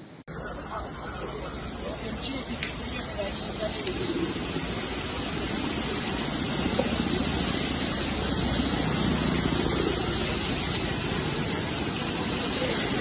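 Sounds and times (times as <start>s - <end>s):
river rushing in torrent: 0.6s - 13.0s.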